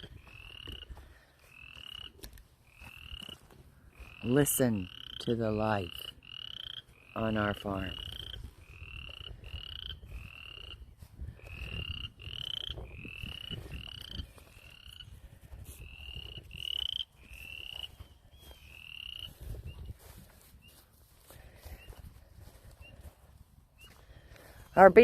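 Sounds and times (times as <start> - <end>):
wind rumble on microphone: 0.0 - 4.2, 7.8 - 24.9
frogs peeping: 0.0 - 20.8.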